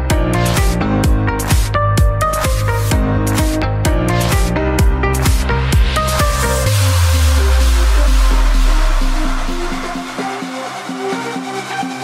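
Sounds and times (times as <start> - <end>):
dubstep music: 0.0 - 12.0.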